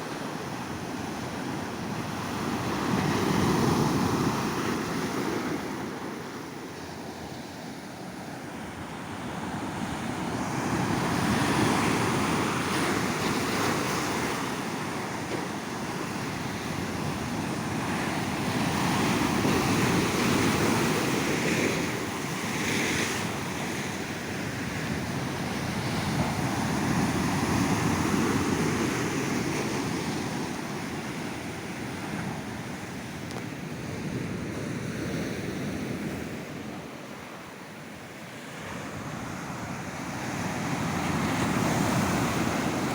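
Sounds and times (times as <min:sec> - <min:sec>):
ocean waves breaking on beach: 0:00.0 - 0:42.9.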